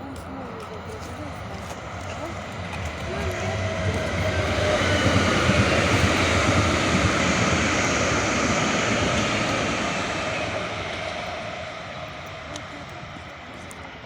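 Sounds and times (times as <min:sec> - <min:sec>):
vehicle and road noise: 0:00.0 - 0:14.0.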